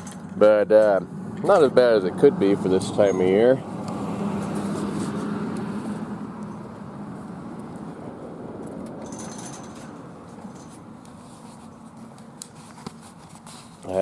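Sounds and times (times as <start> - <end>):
vehicle noise: 0.0 - 14.0.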